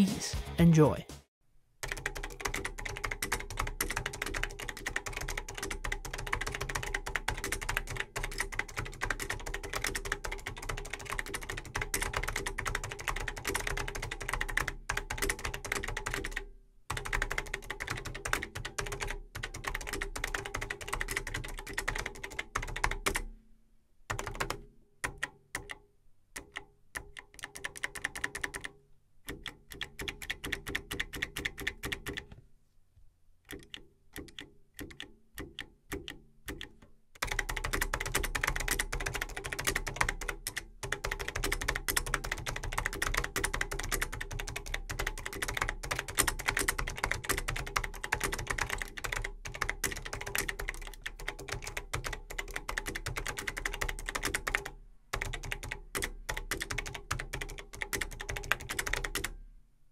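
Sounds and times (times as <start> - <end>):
clicky keyboard typing: 1.8 - 23.3, 24.1 - 32.4, 33.5 - 59.4.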